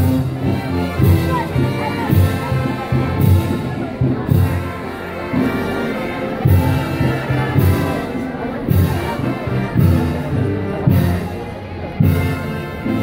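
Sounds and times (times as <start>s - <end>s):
brass band playing a march: 0.0s - 13.0s.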